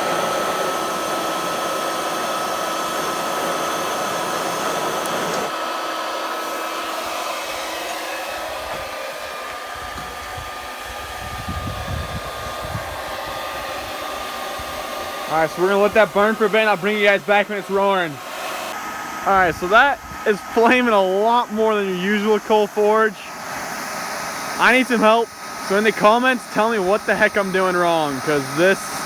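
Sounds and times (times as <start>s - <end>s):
electric forge blower whining: 0.0s - 29.0s.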